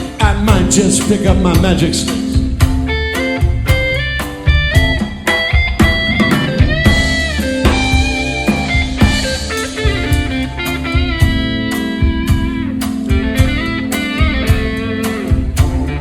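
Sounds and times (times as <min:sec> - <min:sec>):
drum kit beat: 0:00.0 - 0:16.0
lead electric guitar: 0:00.0 - 0:16.0
organ: 0:00.0 - 0:16.0.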